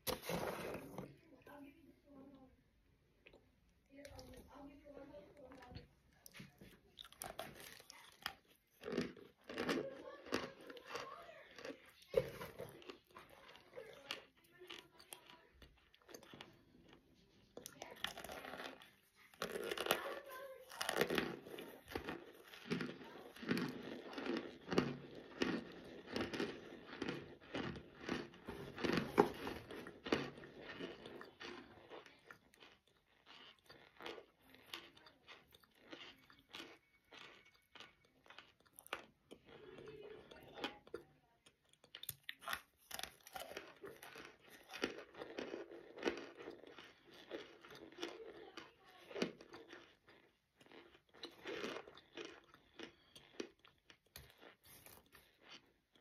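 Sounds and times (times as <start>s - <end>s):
crunchy chewing: 3.1s - 56.0s.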